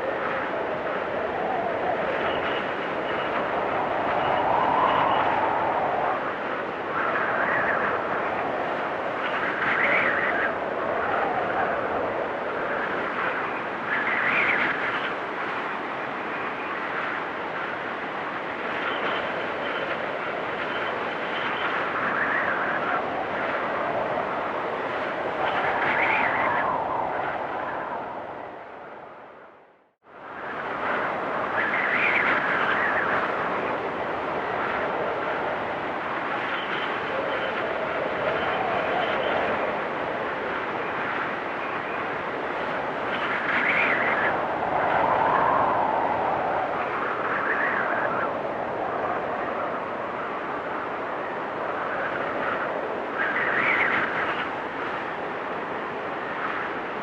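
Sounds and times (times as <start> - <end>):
gusting storm wind whistling: 0.0 - 57.0.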